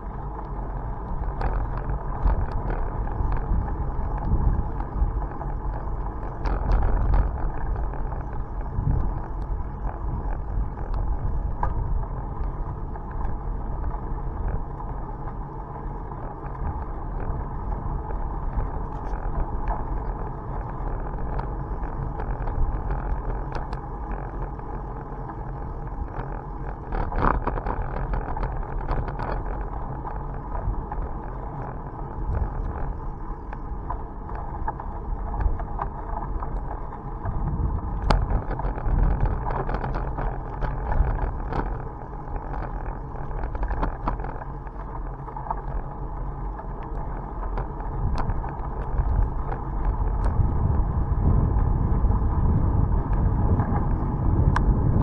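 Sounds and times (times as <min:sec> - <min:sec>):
bicycle rumble on road: 0:00.0 - 0:55.0
wind buffeting microphone: 0:00.0 - 0:55.0.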